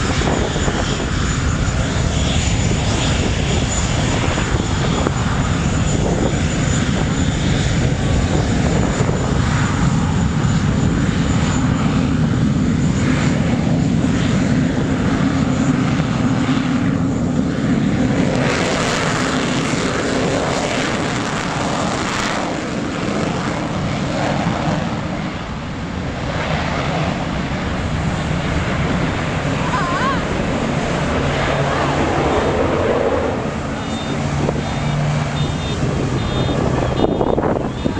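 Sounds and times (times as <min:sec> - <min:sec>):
high jet whine: 0:00.0 - 0:37.9
jet engines rumbling: 0:00.0 - 0:37.9.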